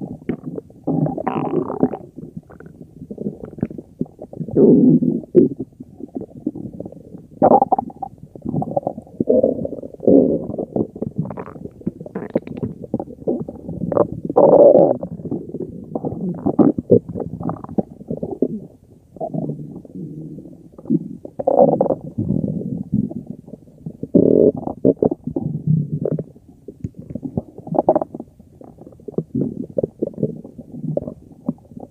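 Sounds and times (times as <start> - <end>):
stomach growling: 0.0 - 31.9.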